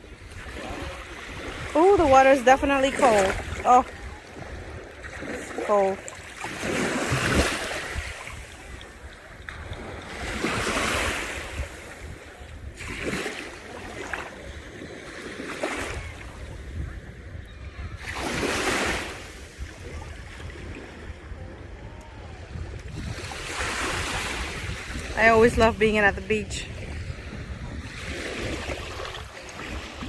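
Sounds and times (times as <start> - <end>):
small waves breaking: 0.0 - 30.0
wind rumbling on microphone: 0.0 - 30.0.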